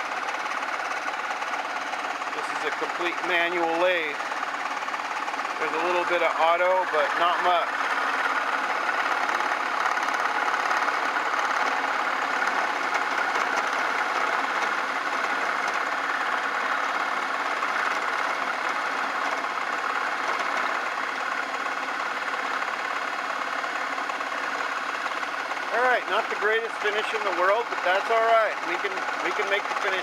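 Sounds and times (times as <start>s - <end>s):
lathe motor humming: 0.0s - 30.0s
lathe tool cutting workpiece: 0.0s - 30.0s.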